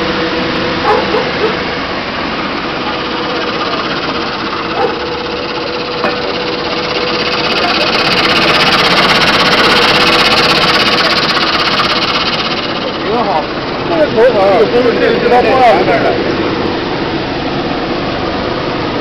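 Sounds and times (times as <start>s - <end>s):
machine humming and rattling: 0.0s - 19.0s.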